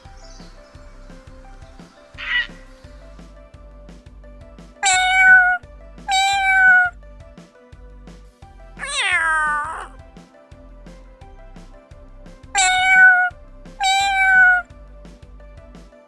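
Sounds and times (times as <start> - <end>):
music with steady beat: 0.0 - 16.0.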